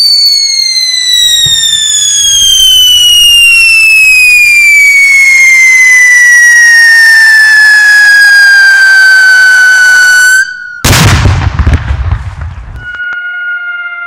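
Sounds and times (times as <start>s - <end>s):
whistling firework: 0.0s - 14.0s.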